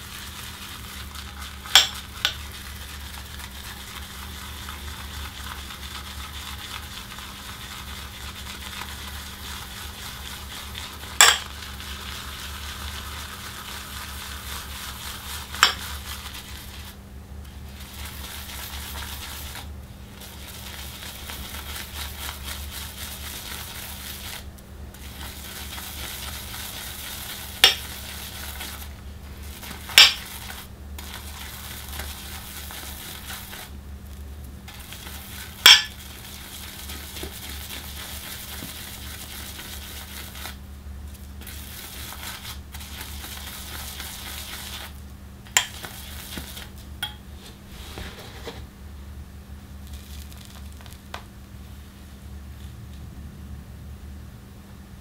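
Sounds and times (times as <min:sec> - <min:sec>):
shaving brush swishing lather: 0:00.0 - 0:33.8, 0:34.7 - 0:45.0, 0:45.6 - 0:48.6.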